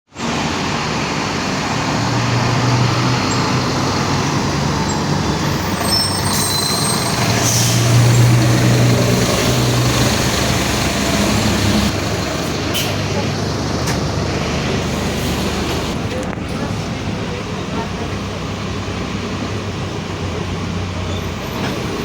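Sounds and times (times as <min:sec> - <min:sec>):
bus diesel engine running: 0:00.1 - 0:22.0.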